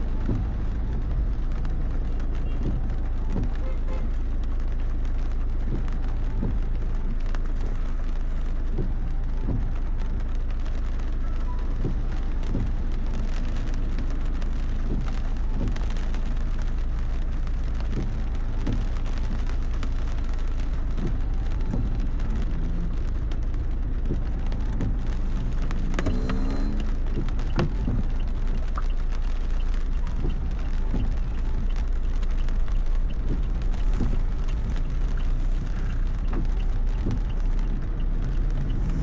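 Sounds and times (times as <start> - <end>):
heavy rain on car: 0.0 - 39.0
road and engine rumble: 0.0 - 39.0
windshield wipers sweeping: 0.0 - 39.0.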